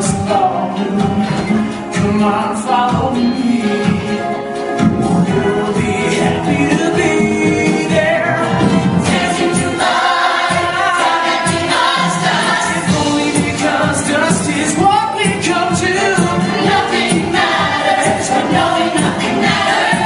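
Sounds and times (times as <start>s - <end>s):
band accompaniment: 0.0s - 20.0s.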